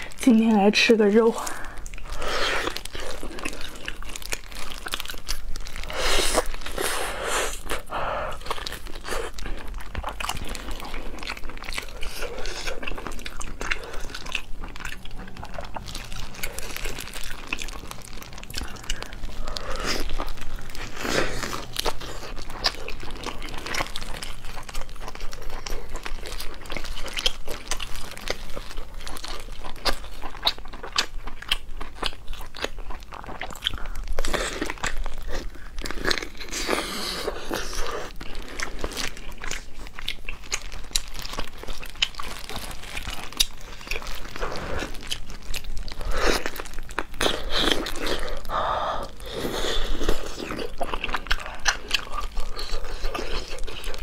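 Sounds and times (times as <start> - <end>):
person chewing meat: 1.4 - 54.0.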